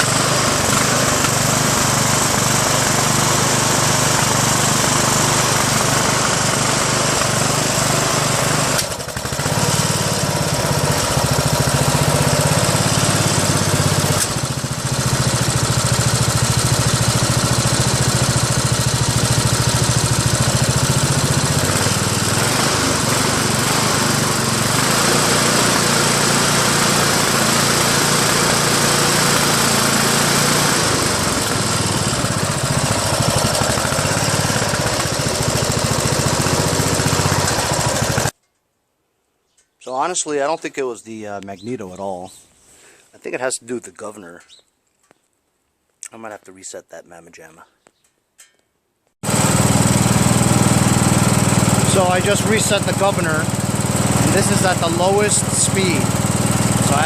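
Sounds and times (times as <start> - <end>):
lawn tractor engine running: 0.0 - 38.4, 49.2 - 57.0.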